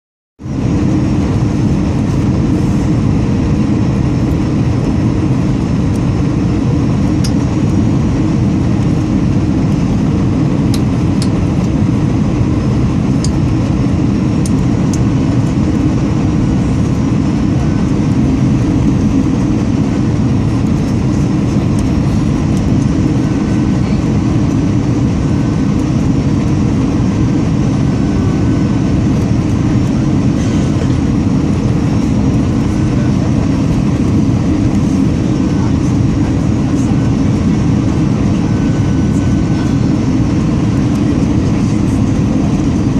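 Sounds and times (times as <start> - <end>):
airplane cabin engine noise: 0.4 - 42.9.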